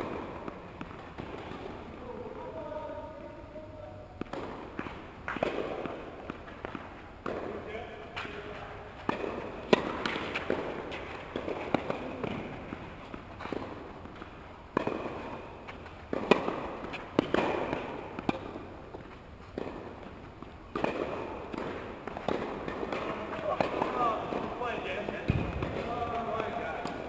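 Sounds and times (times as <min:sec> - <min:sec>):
tennis ball struck by racket: 0:00.0 - 0:02.0, 0:04.2 - 0:27.0
tennis ball bouncing on court: 0:00.0 - 0:02.5, 0:04.2 - 0:27.0.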